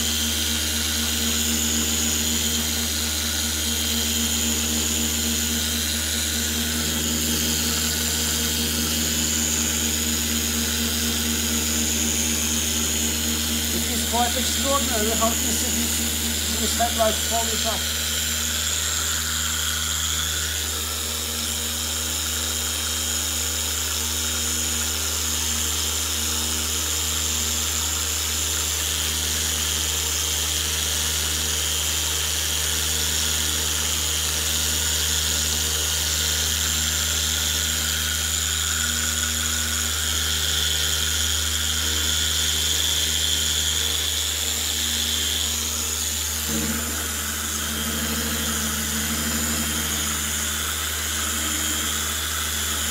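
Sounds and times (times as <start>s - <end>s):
electric polisher running: 0.0s - 52.9s.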